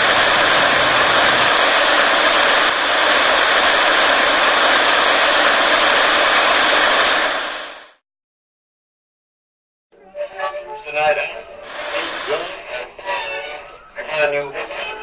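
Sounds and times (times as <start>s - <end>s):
radio static hiss: 0.0s - 8.0s, 10.3s - 15.0s.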